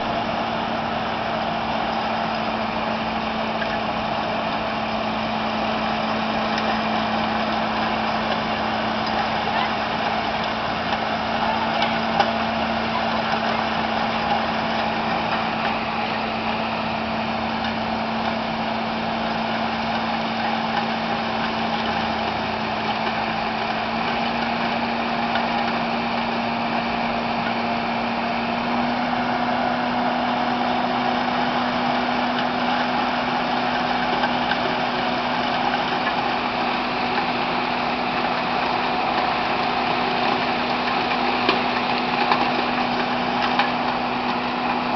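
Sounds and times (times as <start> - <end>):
loader with snow blower running: 0.0 - 44.9.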